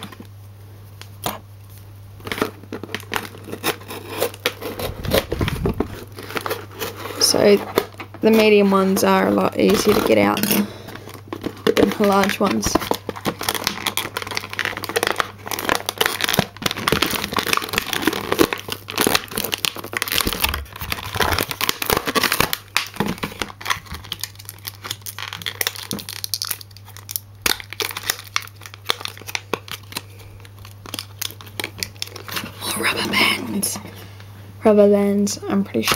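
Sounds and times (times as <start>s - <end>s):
plastic packaging crinkling: 2.2s - 33.6s.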